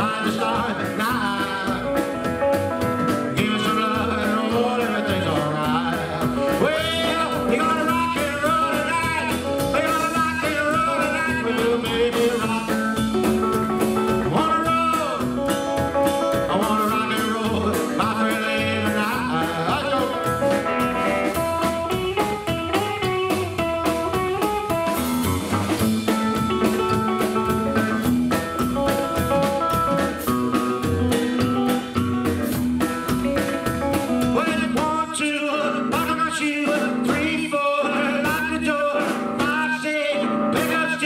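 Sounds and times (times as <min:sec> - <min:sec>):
double bass: 0:00.0 - 0:35.0
guitar lead notes: 0:00.0 - 0:35.0
steady drum beat: 0:00.0 - 0:35.2.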